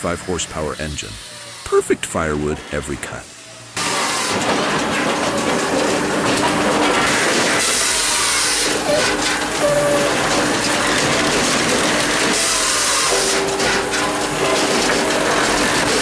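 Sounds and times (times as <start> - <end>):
firewood processor cutting: 0.0 - 16.0
machine hum: 0.0 - 16.0.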